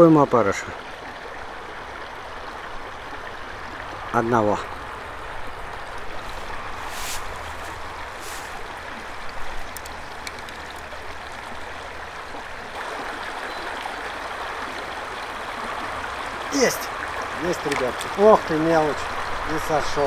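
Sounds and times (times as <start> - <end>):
river rushing and babbling: 0.0 - 20.0.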